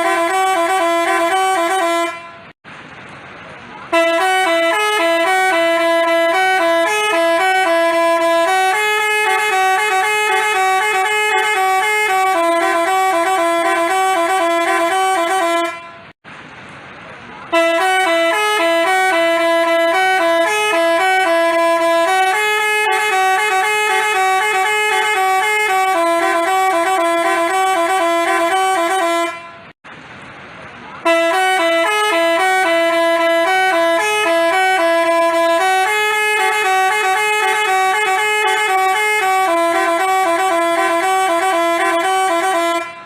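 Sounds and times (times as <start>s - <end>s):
musical bus horn tune: 0.0s - 2.6s, 3.9s - 16.2s, 17.5s - 29.8s, 31.0s - 43.0s.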